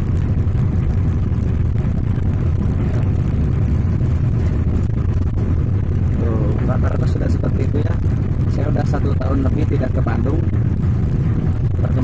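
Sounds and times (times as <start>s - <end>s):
car road noise inside cabin: 0.0s - 12.0s.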